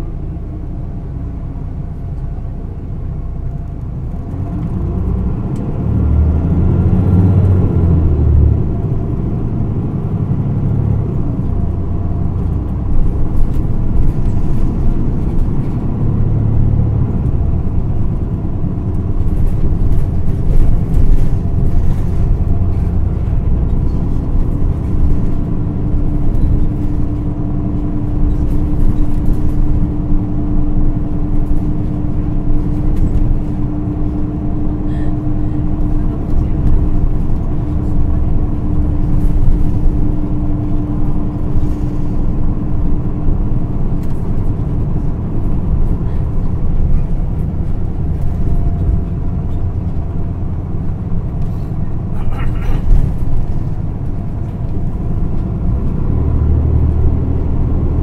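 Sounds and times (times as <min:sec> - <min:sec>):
bus diesel engine: 0:00.0 - 0:58.0
road noise: 0:00.0 - 0:58.0.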